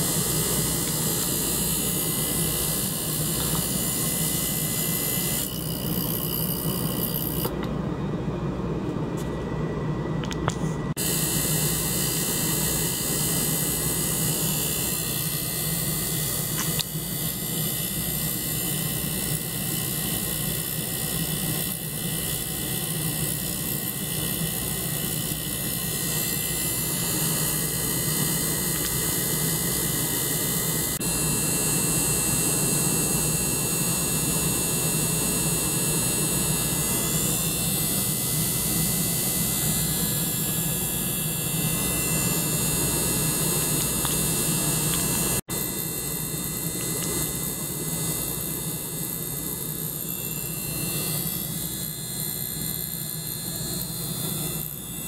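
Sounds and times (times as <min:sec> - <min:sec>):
small water pump: 0:00.0 - 0:07.7, 0:11.0 - 0:55.0
ultrasonic cleaner humming: 0:00.0 - 0:55.0.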